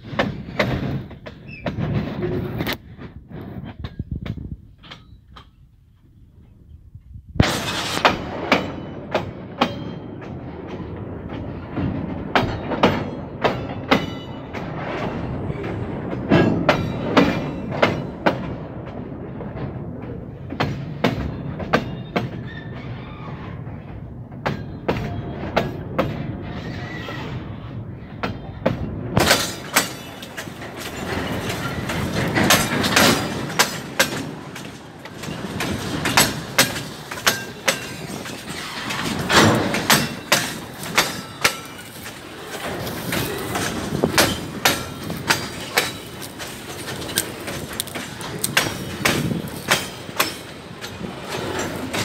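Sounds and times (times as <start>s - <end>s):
train wheels clacking over rail joint: 0.0s - 6.0s, 7.4s - 27.4s, 28.1s - 52.0s
freight wagons rumbling: 0.0s - 52.0s.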